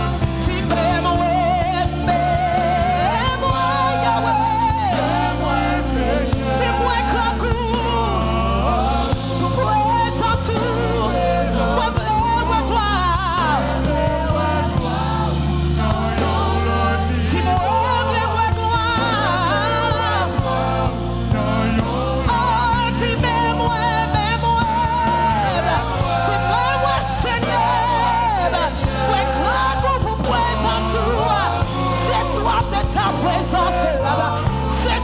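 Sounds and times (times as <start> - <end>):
band with bass and drums: 0.0 - 35.0
person singing gospel melody: 0.0 - 35.0.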